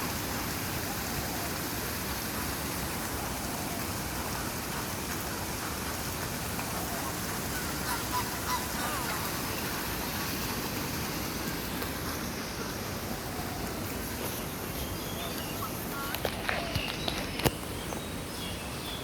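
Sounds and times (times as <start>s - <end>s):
steady rushing noise: 0.0s - 19.0s
waterbird calls: 0.1s - 19.0s.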